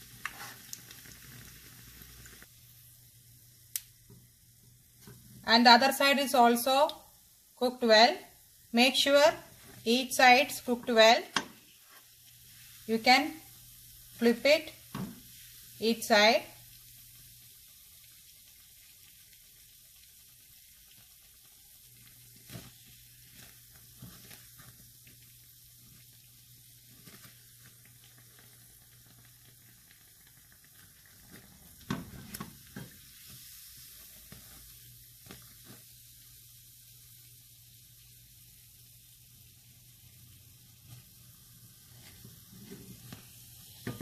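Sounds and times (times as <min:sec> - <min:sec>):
deep-frying sizzle: 0:00.0 - 0:44.0.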